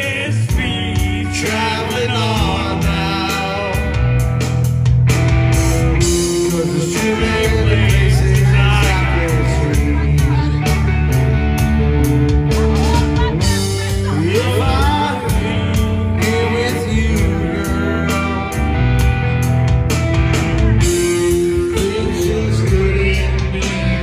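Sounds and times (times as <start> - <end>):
person singing into microphone: 0.0 - 4.3, 6.0 - 11.0, 12.5 - 19.4, 20.8 - 24.0
bass guitar: 0.0 - 24.0
drums: 0.0 - 24.0
electric guitar: 0.0 - 24.0.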